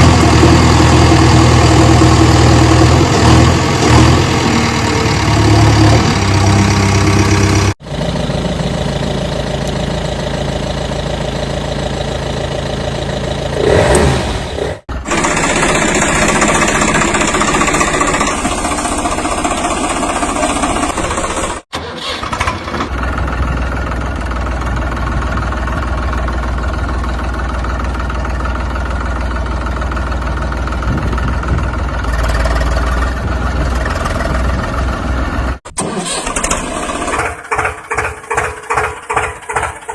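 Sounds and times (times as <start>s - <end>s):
motor engine running: 0.0s - 21.6s, 23.0s - 34.7s.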